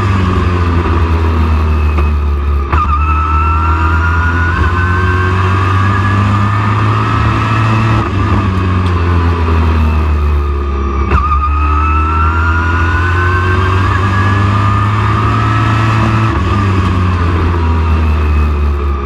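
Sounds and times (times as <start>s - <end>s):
truck engine running hard: 0.0s - 19.0s.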